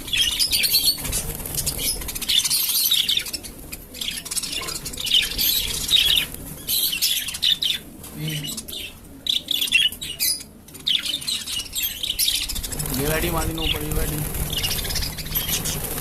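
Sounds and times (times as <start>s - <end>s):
parrots chirping and chattering: 0.0s - 16.0s.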